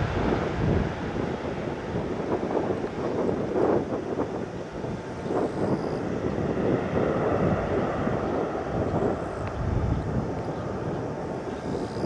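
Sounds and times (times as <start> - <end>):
distant jet airliner rumble: 0.0 - 12.0
wind buffeting microphone: 0.0 - 12.0.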